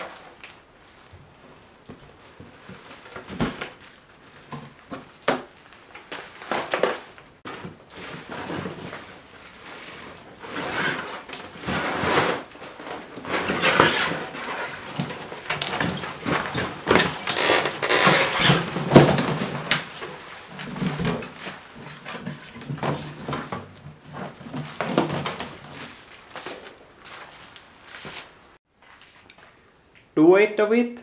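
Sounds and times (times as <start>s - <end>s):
plastic and foam rustling: 0.0s - 30.0s.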